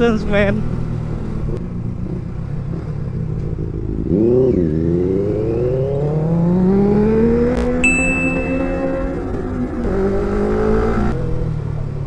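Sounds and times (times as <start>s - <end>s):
motorcycle engine accelerating: 0.0s - 12.0s
road noise: 0.0s - 12.0s.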